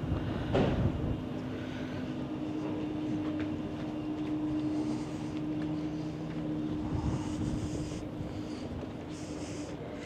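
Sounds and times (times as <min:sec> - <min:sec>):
ferry engines droning: 0:00.0 - 0:10.0.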